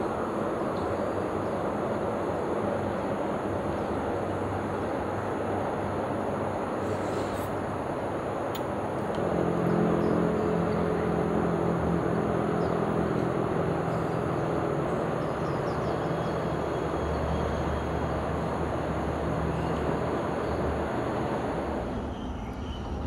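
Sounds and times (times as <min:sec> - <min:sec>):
low engine hum: 0:00.0 - 0:23.0
vehicle traffic rumble: 0:00.0 - 0:23.0.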